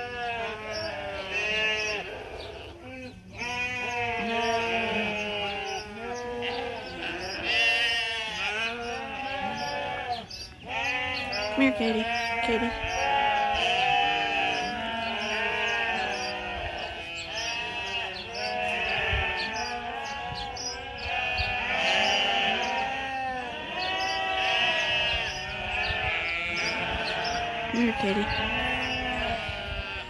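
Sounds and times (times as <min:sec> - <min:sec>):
sheep bleating: 0:00.0 - 0:30.0.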